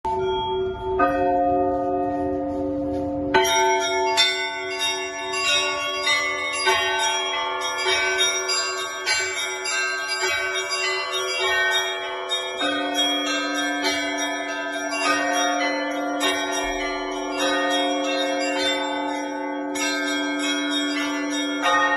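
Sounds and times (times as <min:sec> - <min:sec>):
low church bells slow strokes: 0:00.1 - 0:21.9
small high bells pealing: 0:03.3 - 0:21.9.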